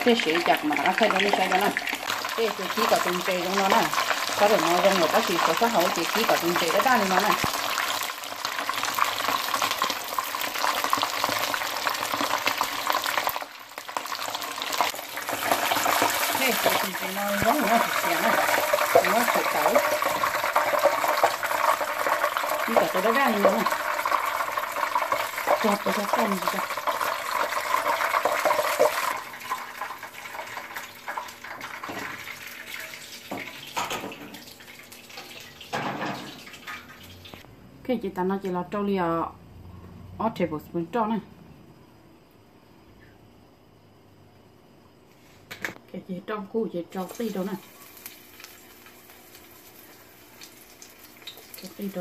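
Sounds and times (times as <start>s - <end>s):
fish sizzling in hot oil: 0.0s - 37.4s, 47.0s - 52.0s.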